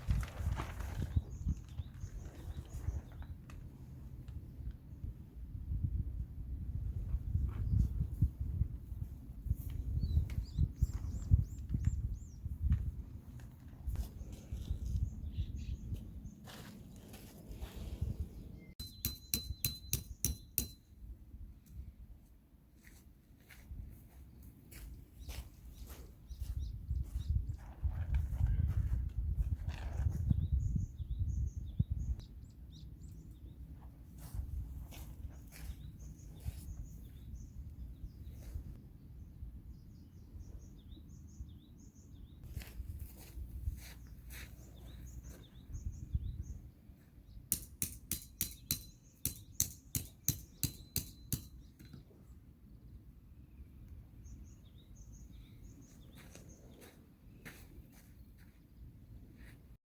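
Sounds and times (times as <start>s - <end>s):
small birds chirping: 0.8s - 5.2s, 7.3s - 20.9s, 24.1s - 59.6s.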